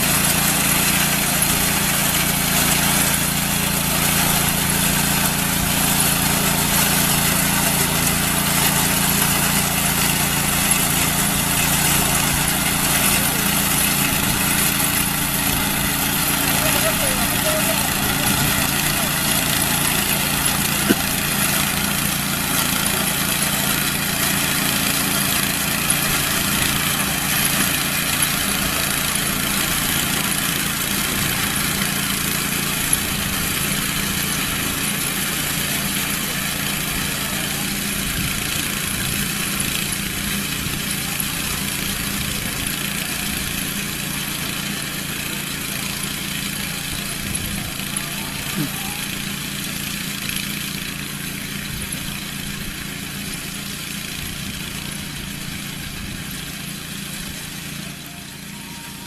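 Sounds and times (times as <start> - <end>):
farm machine engine running: 0.0 - 59.0.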